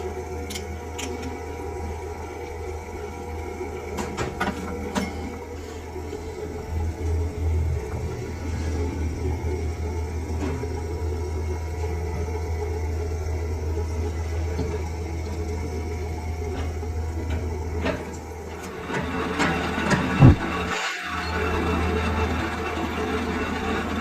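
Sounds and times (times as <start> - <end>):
lathe humming: 0.0 - 24.0.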